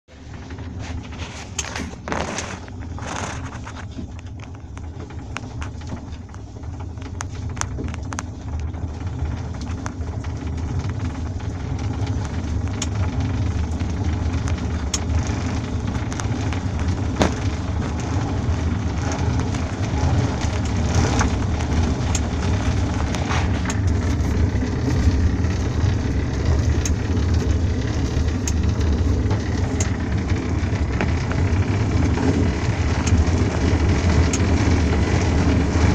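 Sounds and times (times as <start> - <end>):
low rolling rumble: 0.1 - 35.9.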